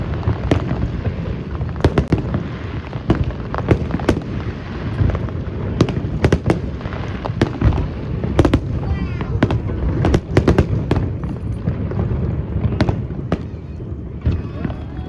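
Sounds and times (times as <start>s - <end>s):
fireworks bangs and booms: 0.0s - 15.0s.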